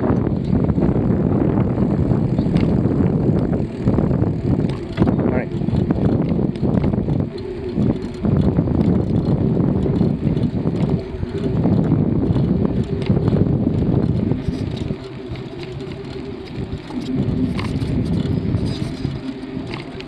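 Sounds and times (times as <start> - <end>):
bicycle tyres rolling: 0.0 - 20.0
wind buffeting microphone: 0.0 - 20.0.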